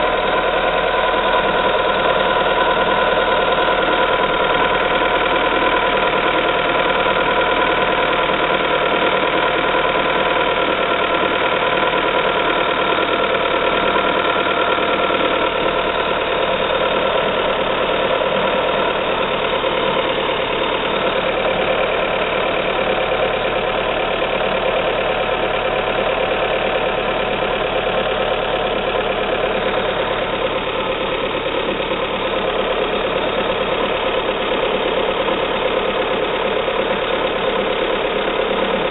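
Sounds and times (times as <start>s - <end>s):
engine idling with rapid knock: 0.0s - 38.9s.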